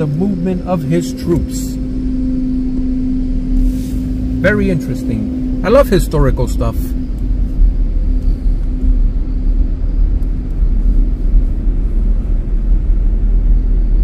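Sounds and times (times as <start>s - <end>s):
car engine rumble: 0.0s - 14.0s
road noise: 0.0s - 14.0s.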